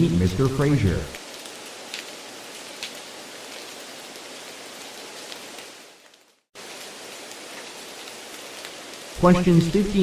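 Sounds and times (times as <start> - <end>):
steady rain hiss: 0.0 - 10.0.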